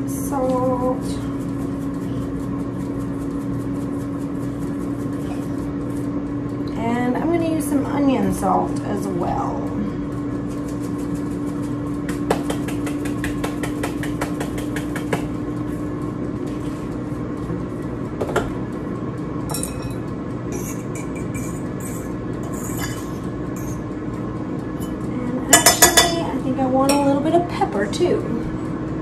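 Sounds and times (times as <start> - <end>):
air fryer fan whirring: 0.0 - 29.0.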